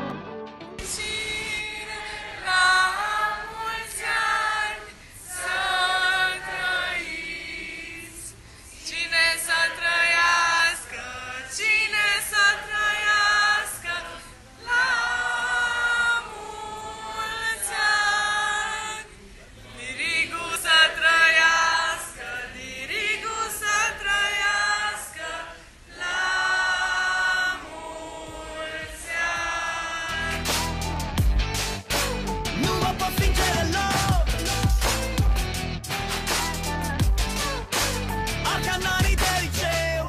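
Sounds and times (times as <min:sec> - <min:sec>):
group singing unaccompanied: 0:00.8 - 0:31.3, 0:32.0 - 0:35.2.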